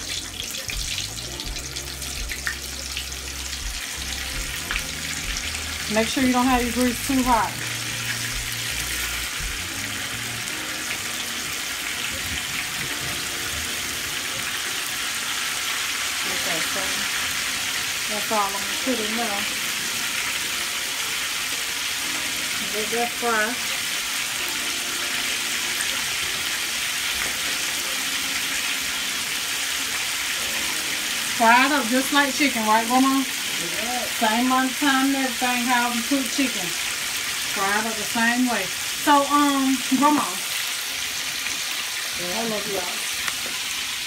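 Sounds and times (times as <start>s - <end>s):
meat sizzling in oil: 0.0s - 44.0s.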